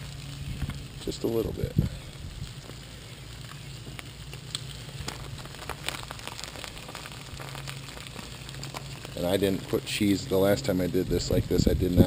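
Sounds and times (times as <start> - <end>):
butter sizzling on a grill: 0.0 - 12.0
low steady hum: 0.0 - 12.0
small pops and crackles: 0.0 - 12.0.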